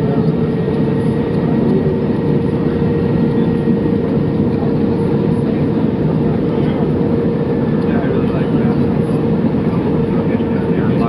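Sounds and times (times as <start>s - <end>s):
jet engines rumbling and whining: 0.0s - 11.0s.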